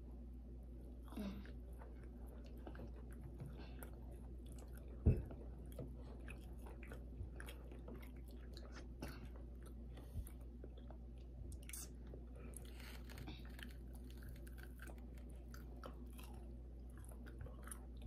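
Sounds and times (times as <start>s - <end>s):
chewing and biting food: 0.9s - 18.0s.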